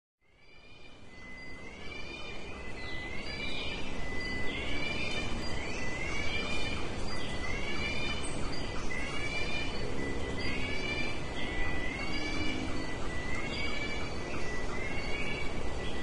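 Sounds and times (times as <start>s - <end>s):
high-pitched whine: 0.6s - 16.0s.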